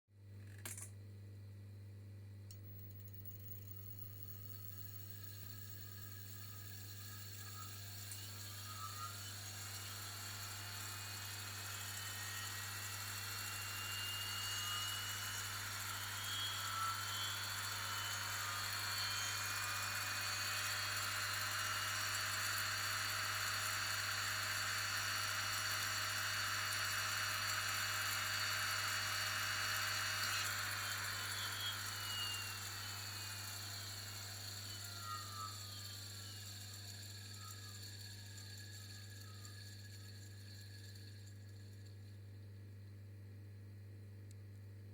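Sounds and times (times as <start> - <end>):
electric fan motor whirring: 2.6 - 41.8.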